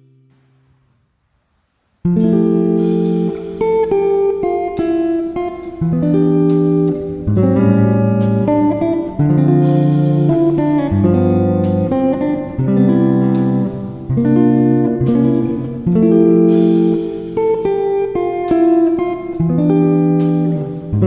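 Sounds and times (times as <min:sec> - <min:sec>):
plucked guitar instrumental: 0:02.1 - 0:21.0.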